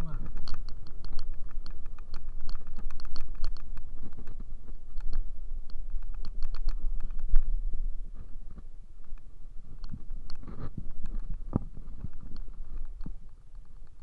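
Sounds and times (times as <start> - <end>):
wind buffeting and road noise: 0.0 - 14.0.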